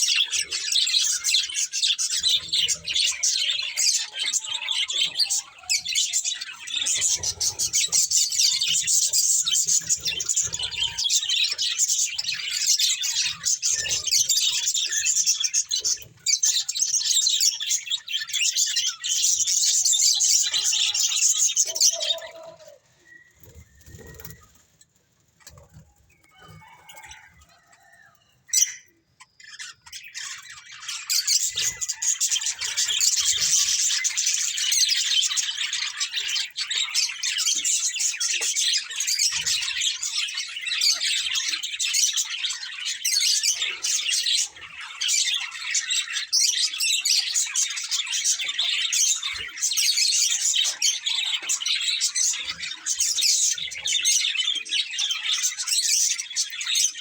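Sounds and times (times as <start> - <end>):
budgerigars chirping and chattering: 0.0 - 24.6, 25.4 - 57.0.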